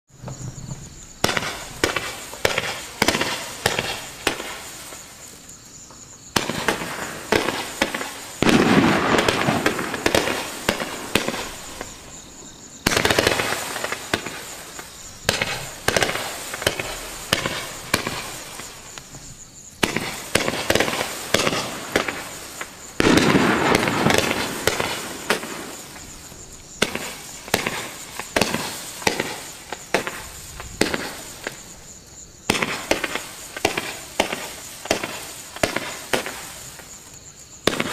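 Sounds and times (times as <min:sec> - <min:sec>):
fireworks launching bangs: 0:00.1 - 0:37.9.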